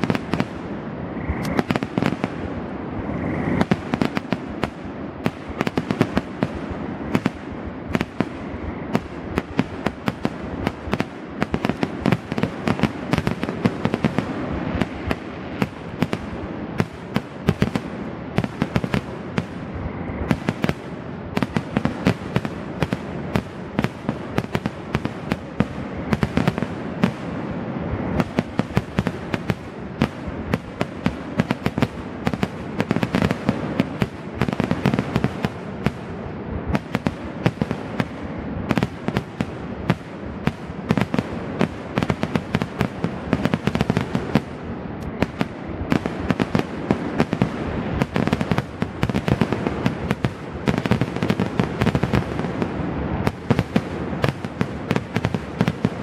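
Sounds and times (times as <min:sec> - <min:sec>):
continuous rumble: 0:00.0 - 0:56.0
fireworks bursting with sharp bangs: 0:00.0 - 0:56.0.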